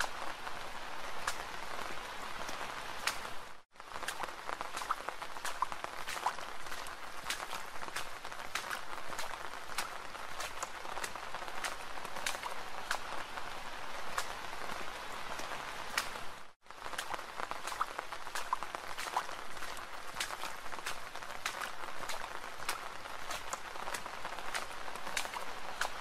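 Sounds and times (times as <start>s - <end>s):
raindrops ticking: 0.0s - 26.0s
soft steady rain: 0.0s - 26.0s.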